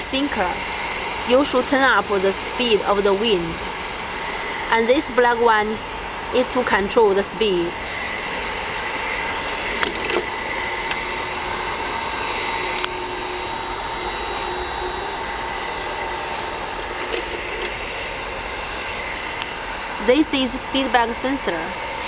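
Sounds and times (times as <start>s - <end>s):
heat gun blower whine: 0.0s - 22.0s.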